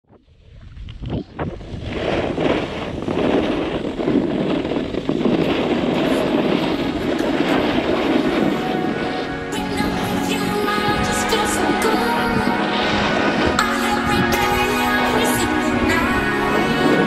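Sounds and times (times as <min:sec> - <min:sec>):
wind rushing over microphone: 0:00.0 - 0:17.0
snow hissing under sliding rider: 0:01.8 - 0:17.0.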